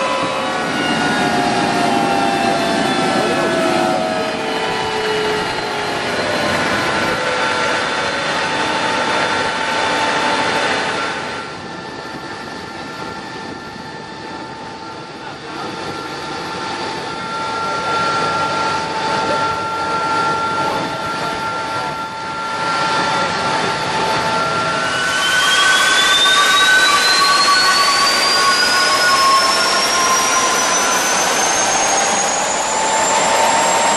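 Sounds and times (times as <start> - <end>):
high whining tones: 0.0 - 33.9
jet engine rushing hiss: 0.0 - 33.9.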